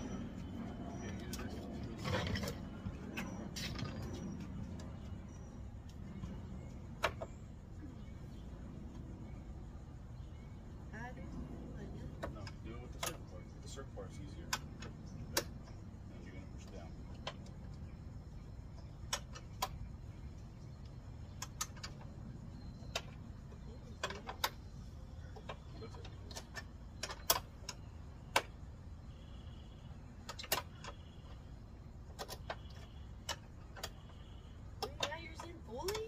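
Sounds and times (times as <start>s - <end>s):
steady low rumble: 0.0s - 30.3s.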